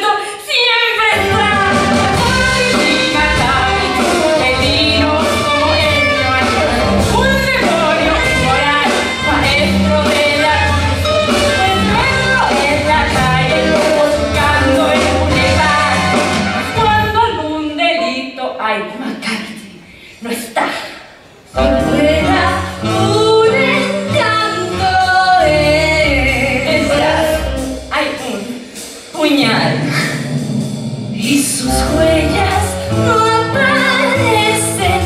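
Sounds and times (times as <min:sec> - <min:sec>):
theatre band playing dance music: 0:00.8 - 0:18.1, 0:21.1 - 0:35.0.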